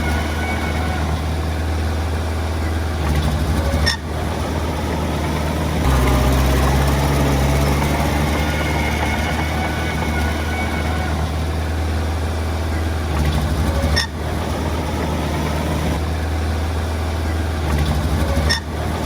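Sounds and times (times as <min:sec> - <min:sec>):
diesel engine of earthmoving machinery: 0:00.0 - 0:19.0.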